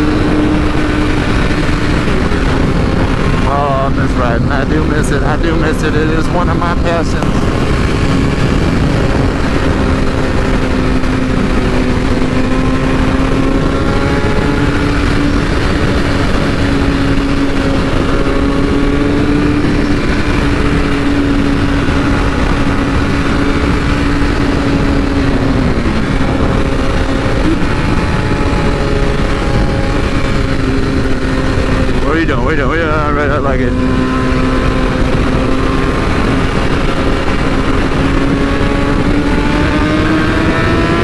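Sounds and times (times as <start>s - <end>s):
motorcycle engine cruising: 0.0s - 41.0s
wind rush on microphone: 0.0s - 41.0s.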